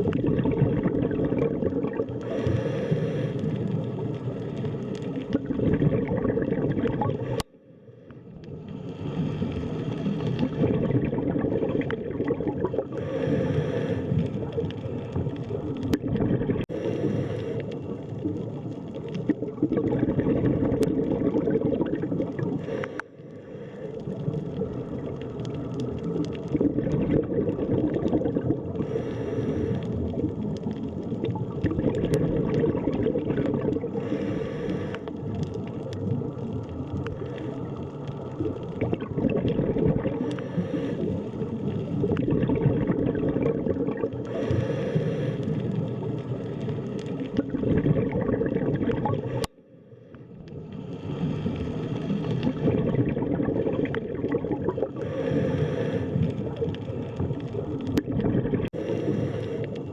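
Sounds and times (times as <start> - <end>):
bubbling: 0.0 - 59.9
underwater rush of water: 0.0 - 59.9.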